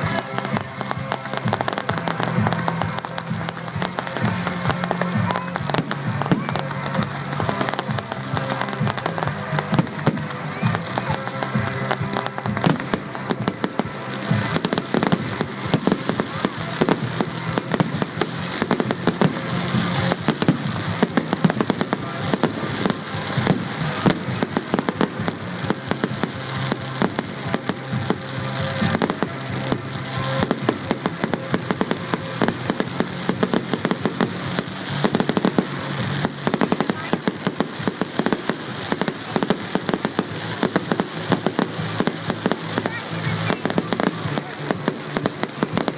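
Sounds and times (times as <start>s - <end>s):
fireworks bangs and crackles: 0.0s - 45.9s
music playing: 0.0s - 45.9s.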